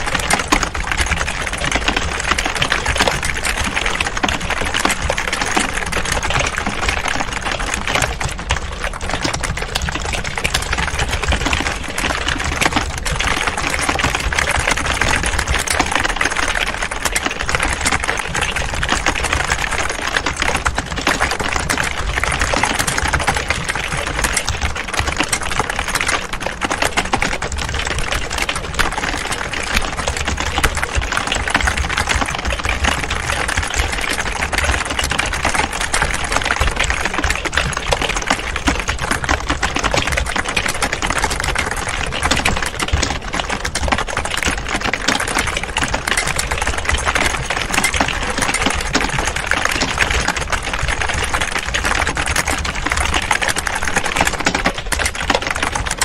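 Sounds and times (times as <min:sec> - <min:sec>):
typing on computer keyboards: 0:00.0 - 0:56.0.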